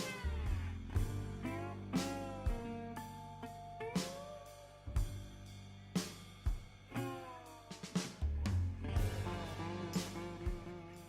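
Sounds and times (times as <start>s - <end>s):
guitar and drums music: 0.0s - 11.0s.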